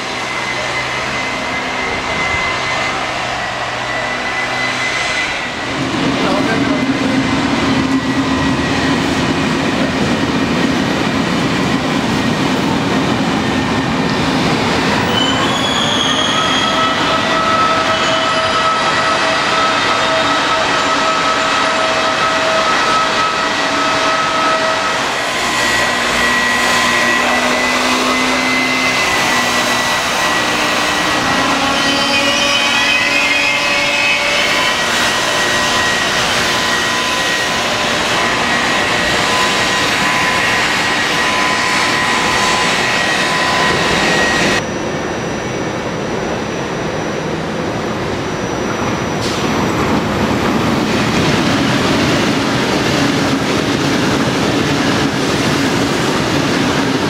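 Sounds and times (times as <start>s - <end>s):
electric locomotive whine: 0.0s - 57.0s
train approaching with rumble: 0.0s - 57.0s.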